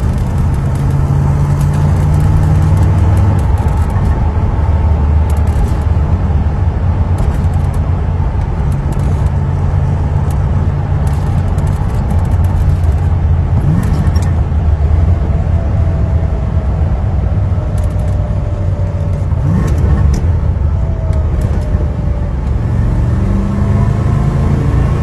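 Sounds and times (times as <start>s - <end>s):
car engine cruising: 0.0s - 25.0s
wind noise: 0.0s - 25.0s.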